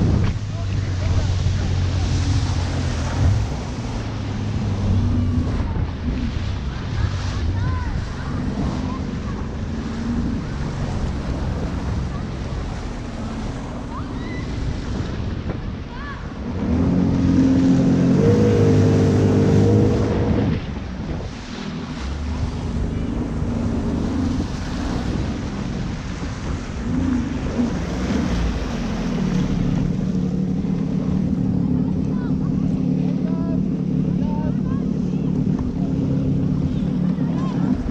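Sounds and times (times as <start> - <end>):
wind noise on microphone: 0.0 - 32.7
jet ski engine running: 0.0 - 37.9
rushing water: 0.0 - 37.9.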